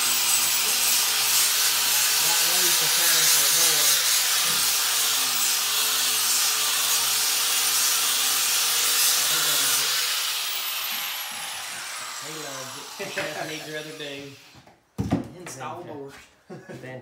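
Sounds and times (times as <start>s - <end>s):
angle grinder grinding wood: 0.0s - 14.7s.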